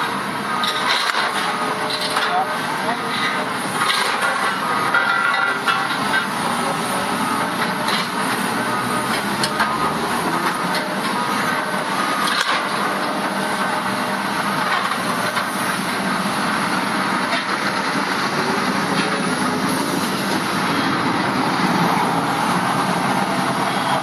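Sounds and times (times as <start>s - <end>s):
demolition excavator working: 0.0s - 24.0s.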